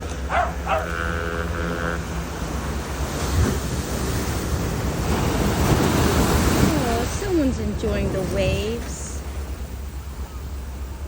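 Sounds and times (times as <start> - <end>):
wind rumbling on microphone: 0.0 - 10.3
ocean surf: 0.0 - 11.0.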